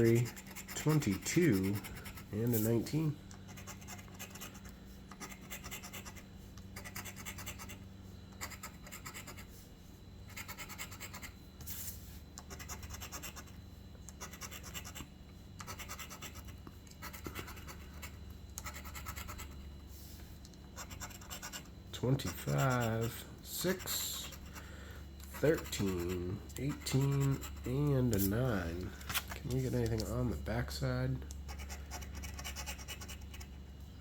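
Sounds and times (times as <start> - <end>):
coin scratching lottery ticket: 0.0 - 7.8, 8.4 - 9.6, 10.3 - 11.4, 12.4 - 19.7, 20.8 - 24.6, 25.2 - 30.3, 31.5 - 33.6.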